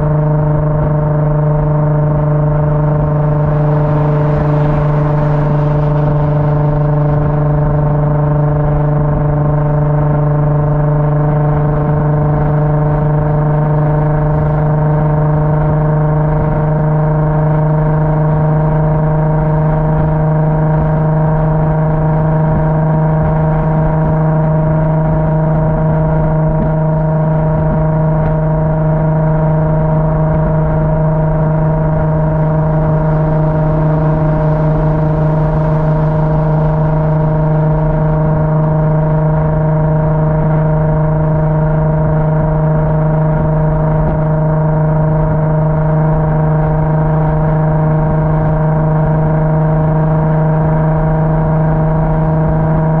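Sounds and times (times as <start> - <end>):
car engine droning: 0.0 - 53.0
low road rumble: 0.0 - 53.0.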